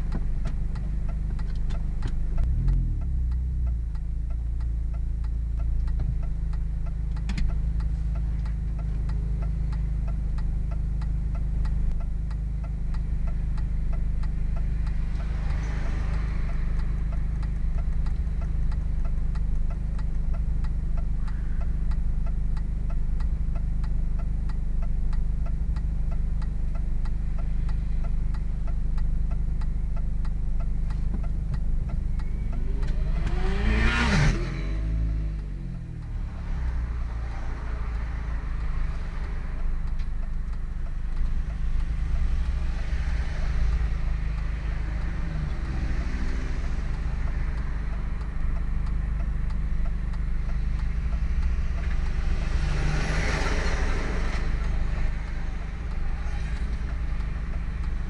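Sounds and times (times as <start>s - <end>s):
car engine through exhaust: 0.0s - 58.0s
fast regular ticking: 0.0s - 58.0s.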